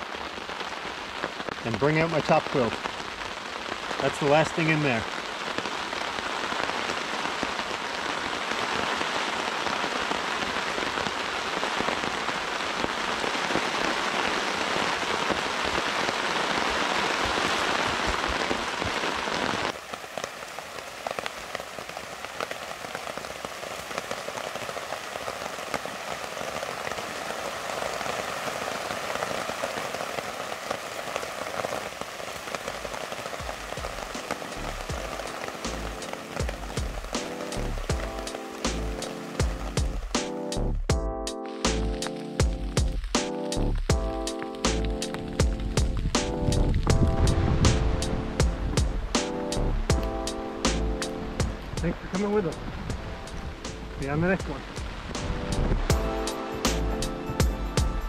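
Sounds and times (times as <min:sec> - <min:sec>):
heavy rain hissing: 0:00.0 - 0:40.9, 0:41.6 - 0:58.0
raindrops ticking: 0:00.0 - 0:58.0.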